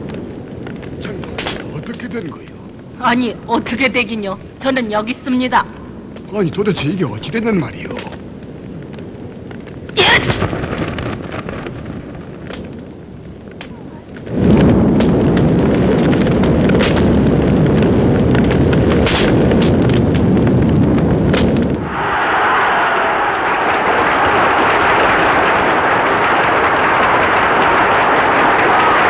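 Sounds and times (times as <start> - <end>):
loud explosion: 0.0 - 29.0
low rumbling roar of fire: 0.0 - 29.0.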